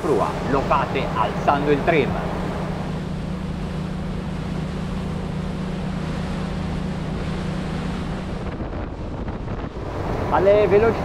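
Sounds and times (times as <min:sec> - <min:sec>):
outboard engine drone: 0:00.0 - 0:11.0
wind and water rushing: 0:00.0 - 0:11.0.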